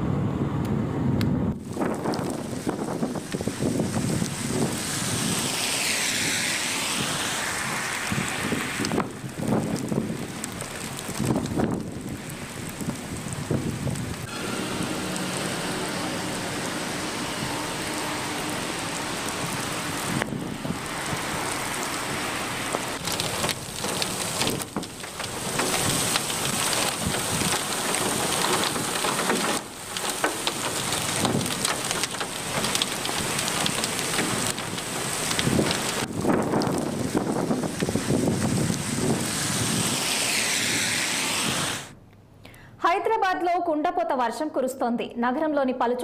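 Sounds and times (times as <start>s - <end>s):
heavy rain pouring: 1.5s - 42.0s.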